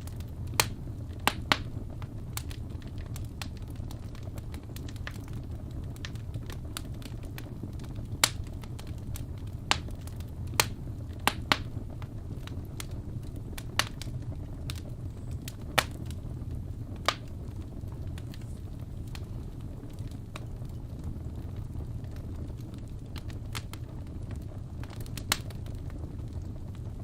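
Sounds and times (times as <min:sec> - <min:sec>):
sharp pops from fire: 0:00.0 - 0:27.0
wood fire crackling: 0:00.0 - 0:27.0.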